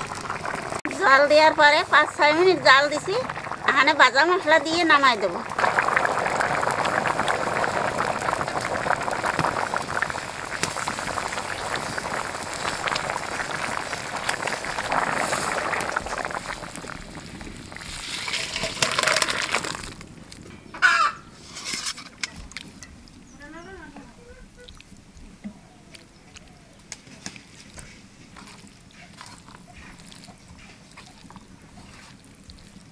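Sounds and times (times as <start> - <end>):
curry boiling and bubbling: 0.0 - 20.6, 21.2 - 32.9.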